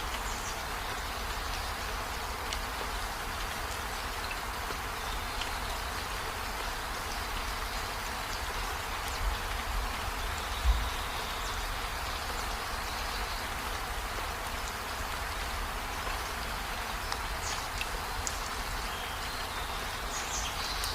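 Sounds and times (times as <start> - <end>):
rain-like hiss: 0.0 - 20.9.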